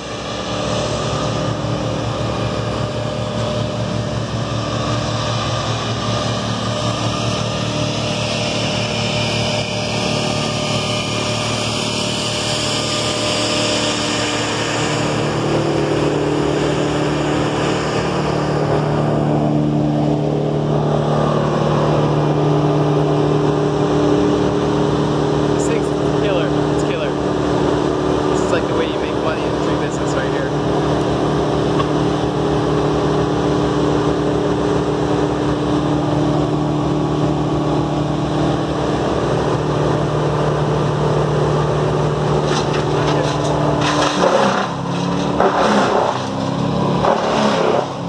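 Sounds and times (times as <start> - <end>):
loader diesel engine: 0.0 - 48.0
wood chipper engine: 0.0 - 48.0.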